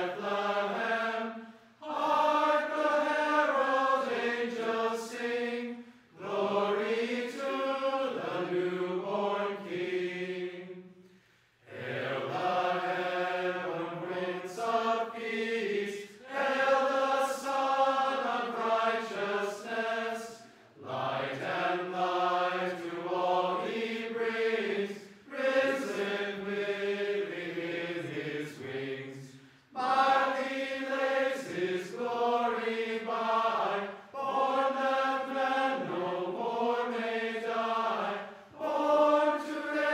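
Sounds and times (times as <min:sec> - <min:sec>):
group of people singing: 0:00.0 - 0:11.0, 0:11.6 - 0:39.9.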